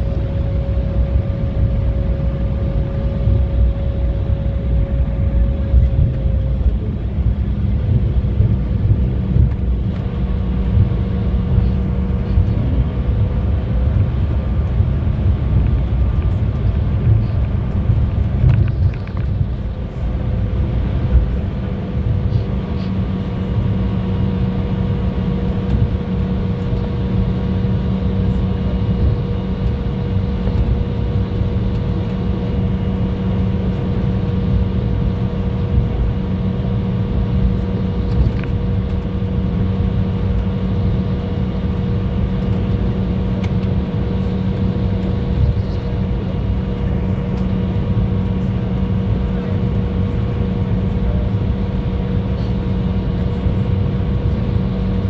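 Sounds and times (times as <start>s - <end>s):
airliner engine drone: 0.0s - 55.0s
faint steady whines: 0.0s - 55.0s.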